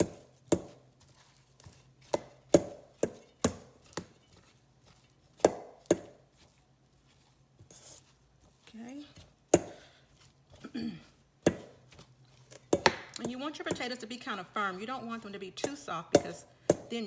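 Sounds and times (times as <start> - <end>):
knife chopping potatoes in a pan: 0.0 - 17.0.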